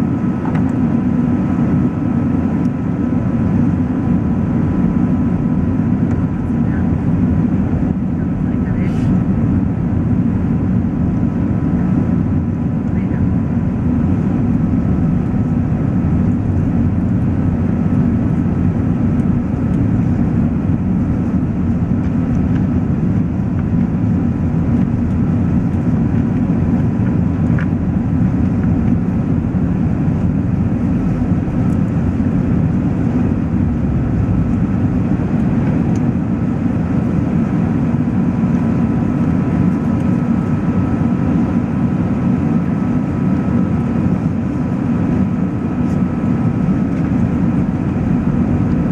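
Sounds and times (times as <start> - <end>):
jet engine rumble: 0.0 - 48.9.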